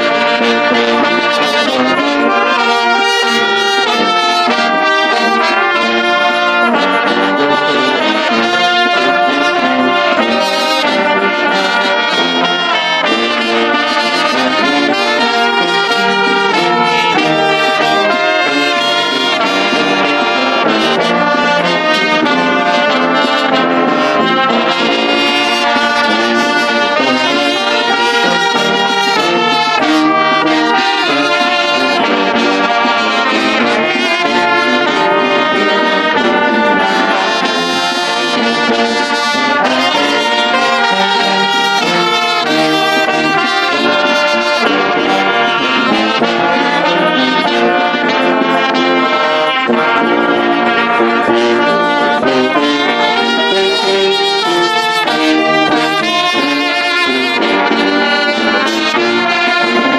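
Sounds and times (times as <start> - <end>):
brass band playing: 0.0 - 59.9.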